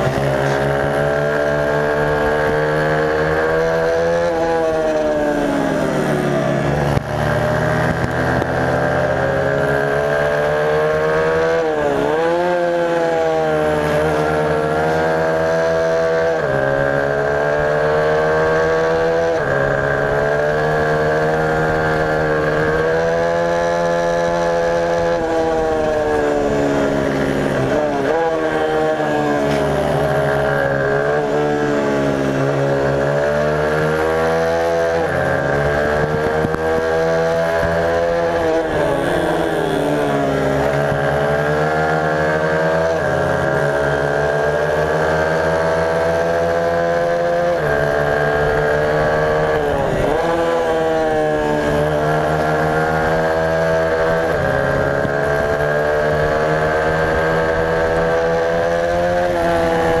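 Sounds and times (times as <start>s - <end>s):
racing motorcycle engine revving: 0.0s - 60.0s.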